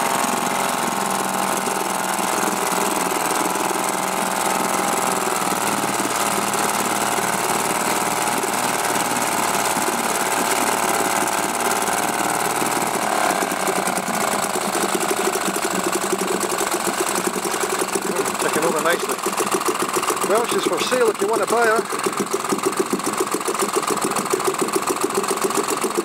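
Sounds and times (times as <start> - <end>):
outboard motor running: 0.0 - 26.0
propeller churning water: 0.0 - 26.0.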